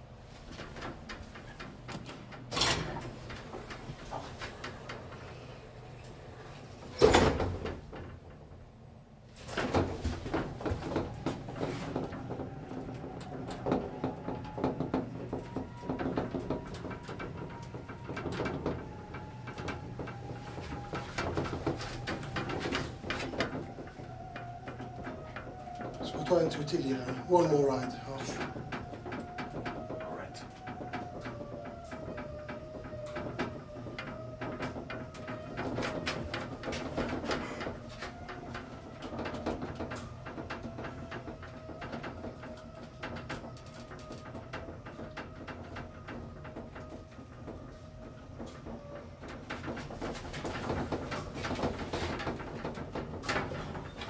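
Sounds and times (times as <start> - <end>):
elevator clicks and rattles: 0.0 - 54.0
elevator motor whine and hum: 0.0 - 54.0.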